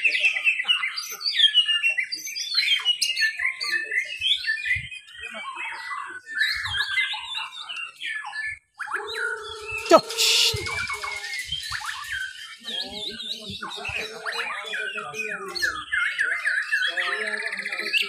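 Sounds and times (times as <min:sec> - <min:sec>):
songbirds singing whistles and trills: 0:00.0 - 0:18.0.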